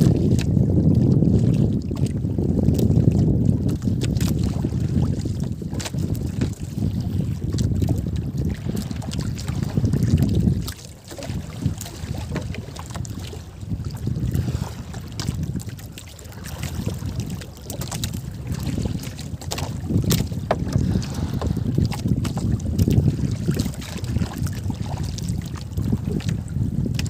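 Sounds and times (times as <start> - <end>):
water lapping at boat: 0.0 - 27.0
wind buffeting microphone: 0.0 - 27.0.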